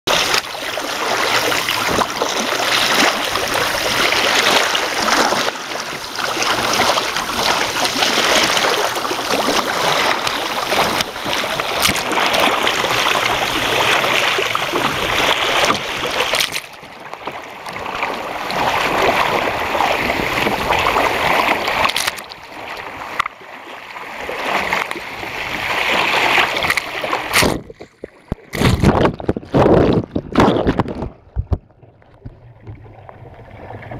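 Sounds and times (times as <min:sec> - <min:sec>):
water splashing against kayak hull: 0:00.1 - 0:33.9.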